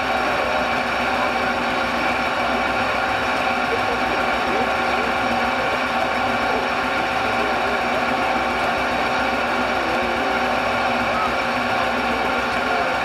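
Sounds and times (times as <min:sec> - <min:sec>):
steam engine and saw humming: 0:00.0 - 0:13.0.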